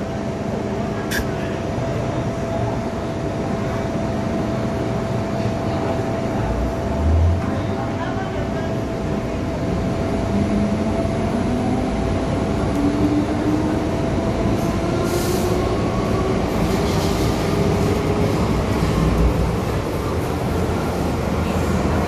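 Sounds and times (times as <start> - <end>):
metro train running noise: 0.0 - 22.0.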